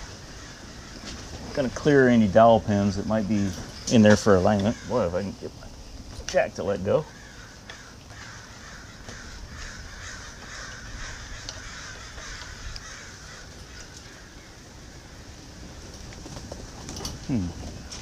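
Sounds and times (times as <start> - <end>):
faint bird calls: 0.0 - 1.6, 3.1 - 15.8, 17.0 - 18.0.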